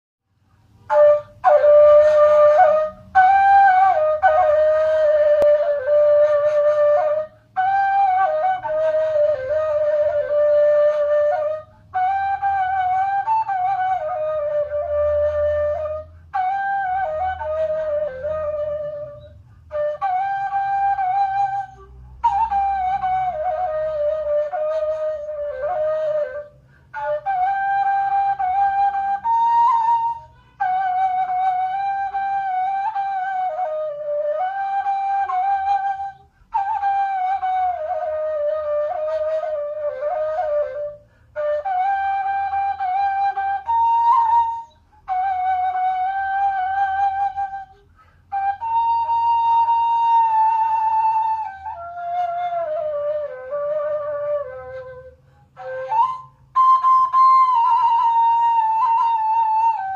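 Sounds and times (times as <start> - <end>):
end-blown flute melody: 0.8 - 59.9.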